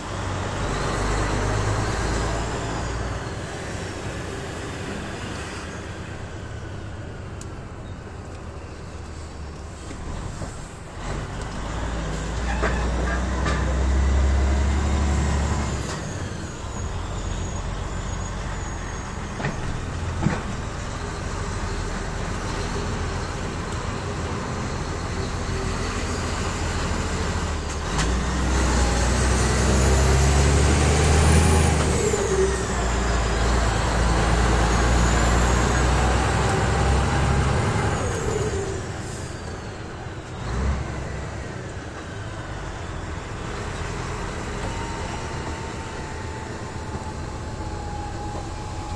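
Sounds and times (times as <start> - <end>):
engine whine: 0.0 - 48.9
truck diesel engine rumbling: 0.0 - 48.9.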